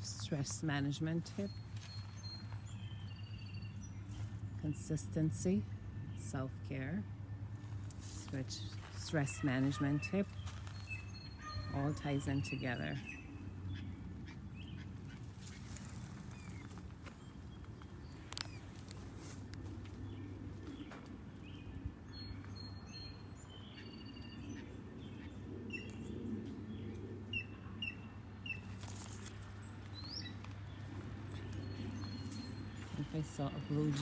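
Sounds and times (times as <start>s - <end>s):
small birds chirping: 0.0s - 6.8s, 7.5s - 34.0s
low background hum: 0.0s - 34.0s.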